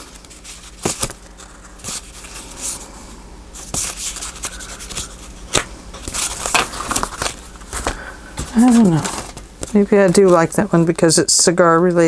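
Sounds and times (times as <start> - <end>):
paper rubbing and rustling: 0.0 - 2.9, 3.6 - 10.9.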